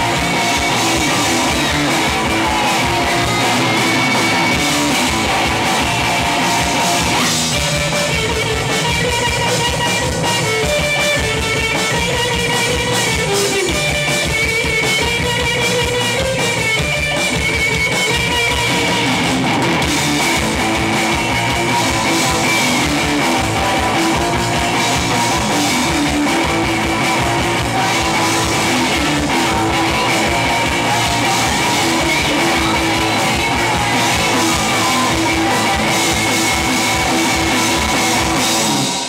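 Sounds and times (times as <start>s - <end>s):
punk rock band playing: 0.0s - 39.0s.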